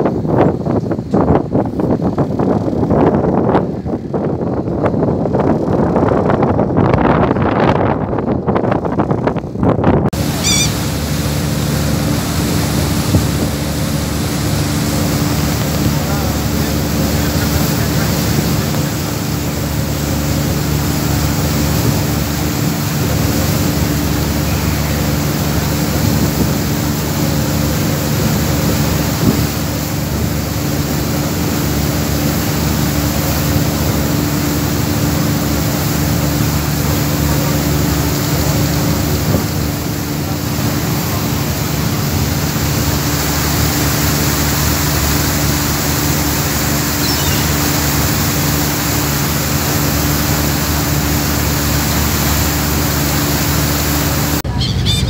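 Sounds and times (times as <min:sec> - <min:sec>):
water rushing along hull: 0:00.0 - 0:55.0
ferry diesel engine drone: 0:10.1 - 0:55.0.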